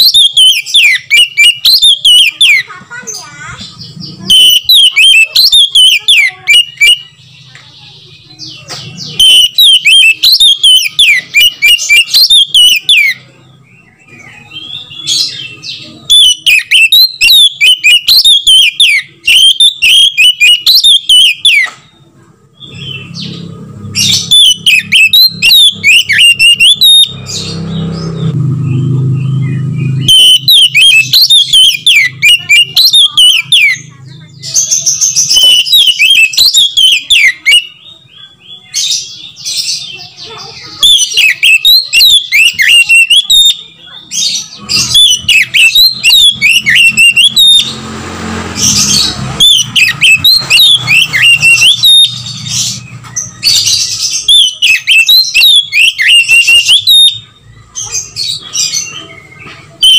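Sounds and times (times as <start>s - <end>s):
bird singing whistles: 0.0s - 2.6s, 4.2s - 7.2s, 9.0s - 21.7s, 22.6s - 27.6s, 28.7s - 37.9s, 40.8s - 47.8s, 48.7s - 59.0s.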